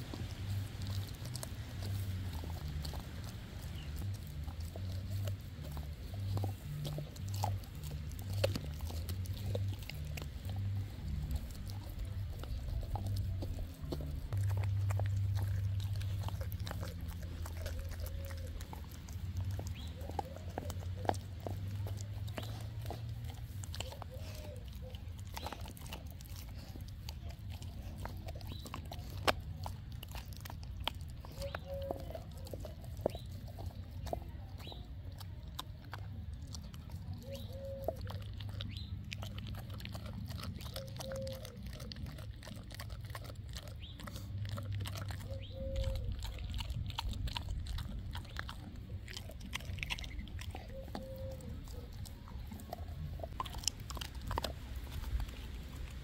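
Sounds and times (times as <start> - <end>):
dog chewing raw meat: 0.0 - 56.0
teeth clicking: 0.0 - 56.0.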